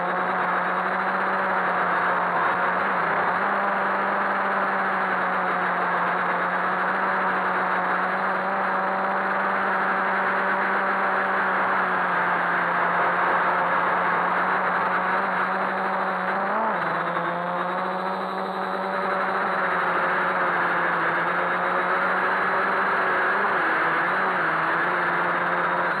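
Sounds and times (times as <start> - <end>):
drone motors and propellers whirring: 0.0 - 26.0.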